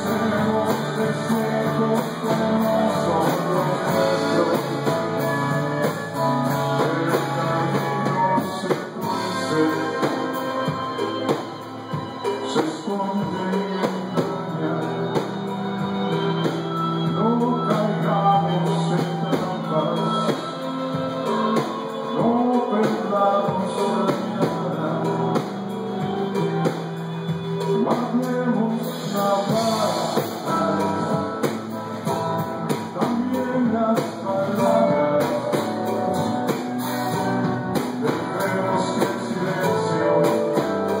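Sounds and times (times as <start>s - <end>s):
man singing into a microphone: 0.0s - 15.6s, 16.9s - 41.0s
rock band playing: 0.0s - 41.0s.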